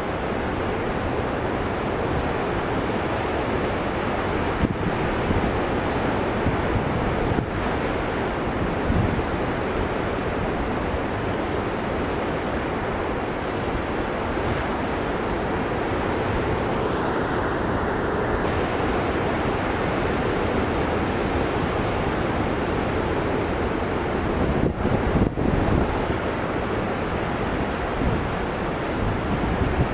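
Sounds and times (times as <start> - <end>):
ocean surf breaking: 0.0 - 29.9.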